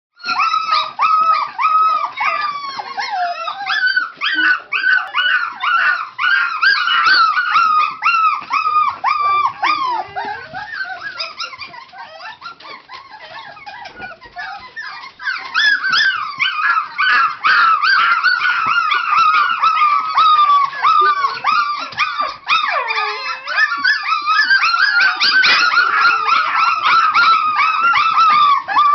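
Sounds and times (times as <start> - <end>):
puppies yipping and howling: 0.2 - 28.9.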